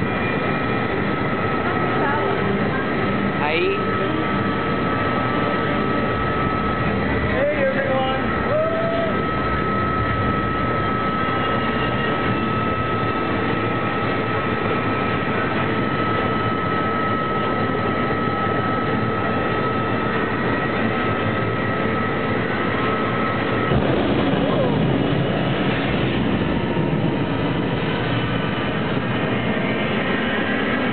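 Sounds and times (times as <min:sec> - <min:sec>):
roaring wind and rumble: 0:00.0 - 0:30.9.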